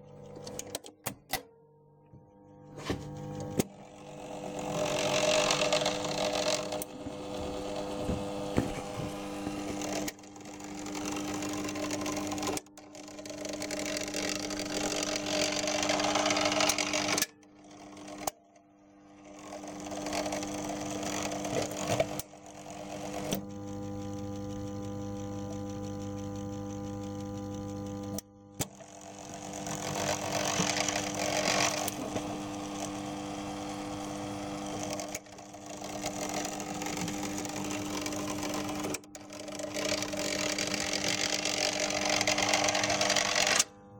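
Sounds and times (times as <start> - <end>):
electric motor whirring: 3.2 - 17.3, 19.2 - 43.7.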